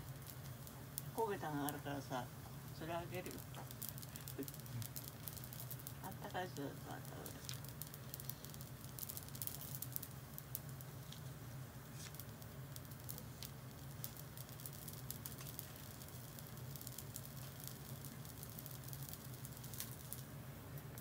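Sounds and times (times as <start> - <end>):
buns sizzling with crackles: 0.0 - 21.0.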